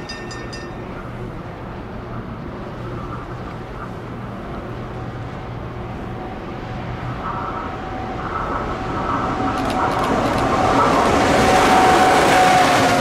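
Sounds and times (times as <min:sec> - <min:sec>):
freight locomotive running: 0:00.0 - 0:13.0
locomotive whine: 0:00.0 - 0:13.0.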